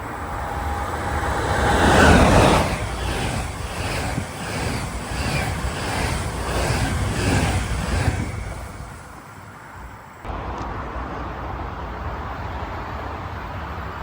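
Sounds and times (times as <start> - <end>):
outdoor trackside rumble: 0.0 - 14.0
passing train rumble: 0.0 - 14.0.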